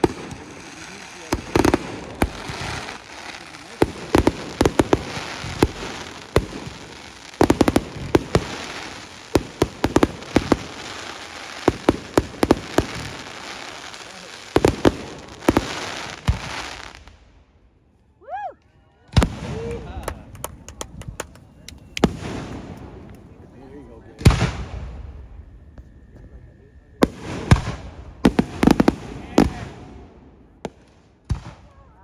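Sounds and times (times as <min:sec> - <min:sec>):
fireworks cracking and popping: 0:00.0 - 0:17.3, 0:19.1 - 0:25.9, 0:27.0 - 0:32.0
fireworks crackle: 0:00.0 - 0:17.8, 0:19.1 - 0:32.0.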